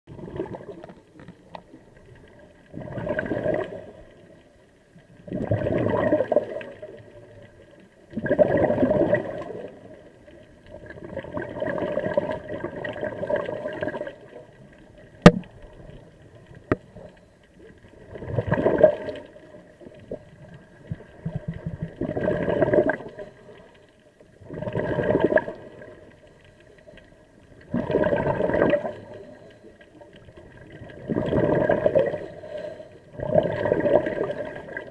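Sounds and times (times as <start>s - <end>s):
exhaled bubbles gurgling underwater: 0.1s - 34.9s.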